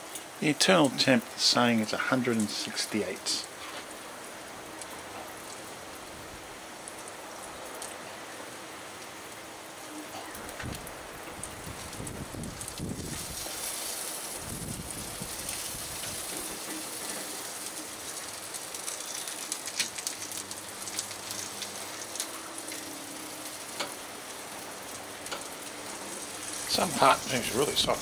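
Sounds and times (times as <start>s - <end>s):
meat sizzling and crackling: 1.9s - 28.0s.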